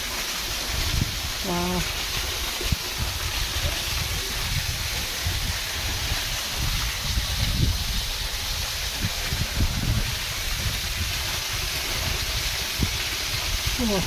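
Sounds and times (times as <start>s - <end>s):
waterfall rushing: 0.0s - 14.0s
wind buffeting microphone: 0.5s - 14.0s.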